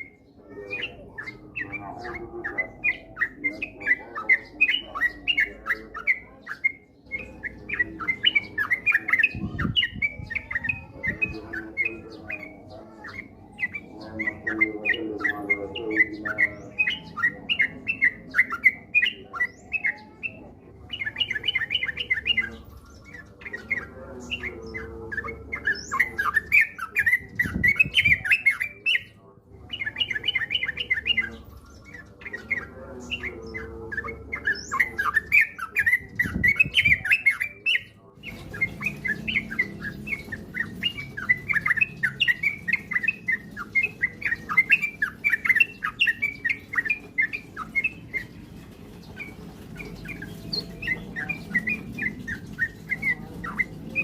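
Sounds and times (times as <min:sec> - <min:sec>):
bulbul chirping song: 0:00.0 - 0:54.0.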